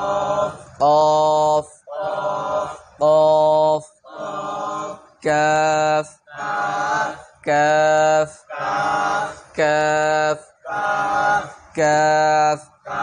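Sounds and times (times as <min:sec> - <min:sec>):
group of voices chanting: 0:00.0 - 0:13.0
man chanting: 0:00.0 - 0:13.0.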